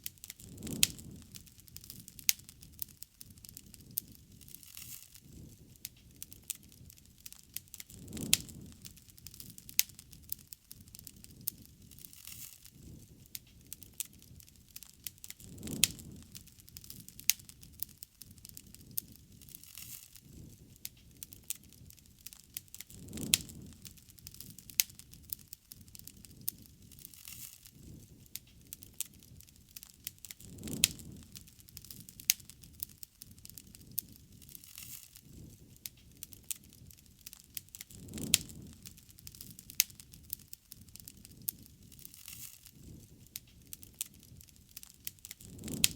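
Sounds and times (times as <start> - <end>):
bonfire crackling and popping: 0.0 - 45.9
low rumble of flames: 0.0 - 45.9.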